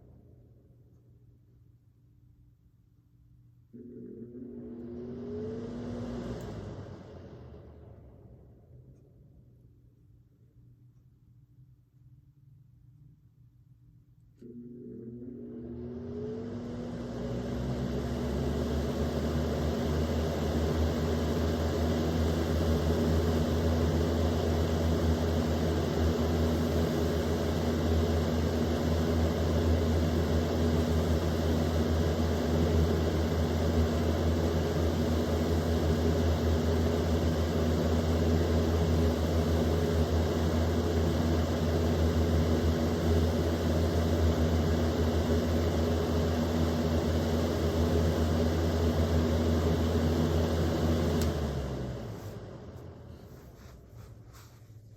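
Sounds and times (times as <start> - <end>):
electric fan motor hum: 3.7 - 9.2, 14.4 - 54.7.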